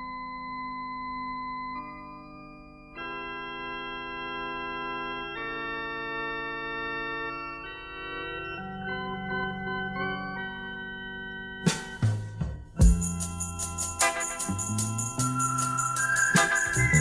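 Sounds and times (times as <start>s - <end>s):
sustained organ chords: 1.8s - 17.0s.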